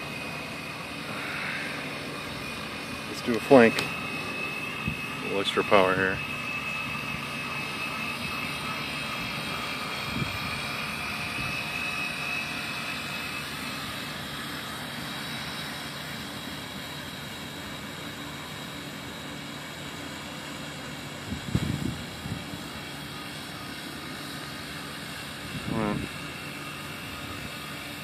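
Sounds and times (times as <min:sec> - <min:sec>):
model boat motor whining: 0:00.0 - 0:28.0.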